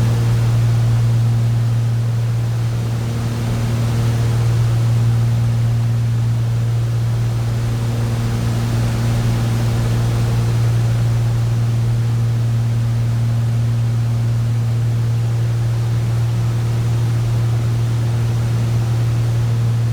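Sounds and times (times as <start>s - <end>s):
boat engine droning: 0.0s - 19.9s.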